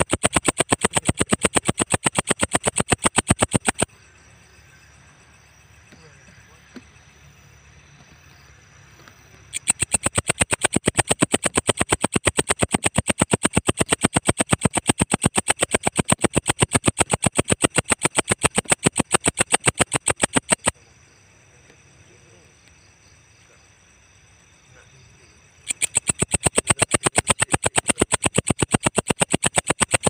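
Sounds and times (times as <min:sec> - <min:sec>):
insect calling in rapid pulses: 0:00.0 - 0:30.0.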